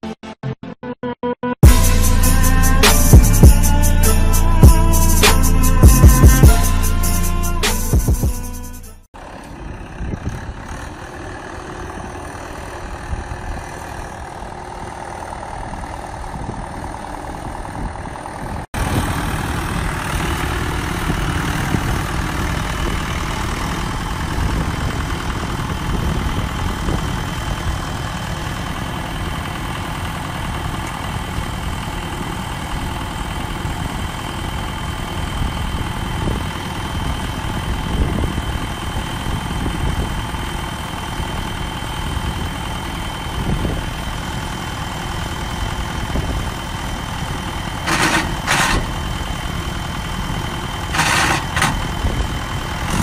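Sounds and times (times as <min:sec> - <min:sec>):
tractor diesel engine under load: 0:01.6 - 0:53.0.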